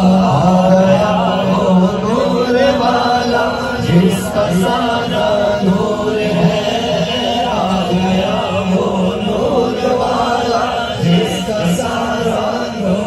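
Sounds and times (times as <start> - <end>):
men chanting devotional melody: 0.0 - 13.0.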